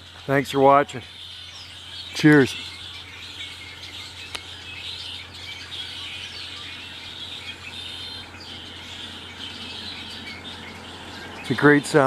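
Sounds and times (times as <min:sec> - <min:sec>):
blackbirds chirping and squawking: 0:00.0 - 0:12.0.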